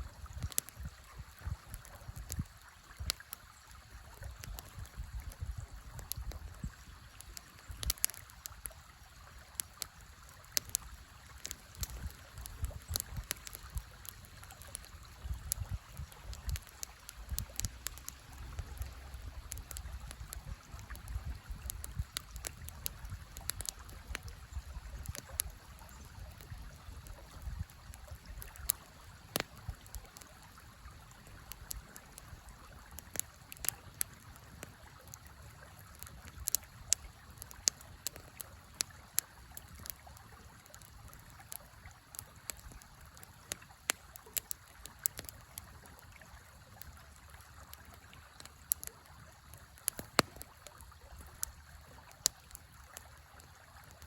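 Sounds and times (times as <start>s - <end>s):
wood fire crackling and popping: 0.2s - 54.0s
river flowing: 5.6s - 54.0s.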